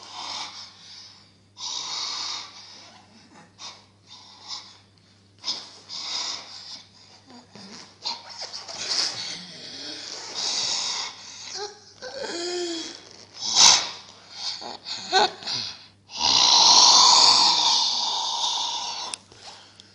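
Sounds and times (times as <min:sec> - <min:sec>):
person wheezing and snorting: 0:02.2 - 0:19.2.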